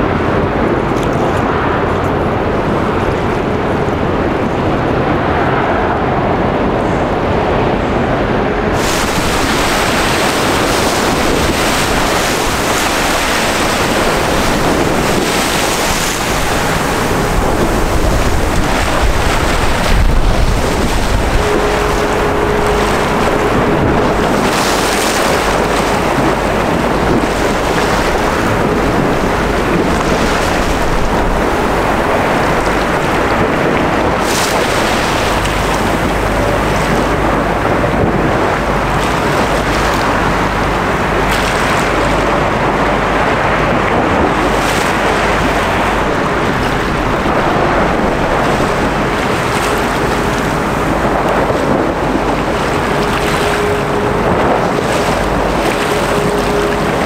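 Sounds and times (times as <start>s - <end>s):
choppy water: 0.0s - 57.0s
faint hum: 0.0s - 57.0s
wind rushing on microphone: 0.0s - 57.0s.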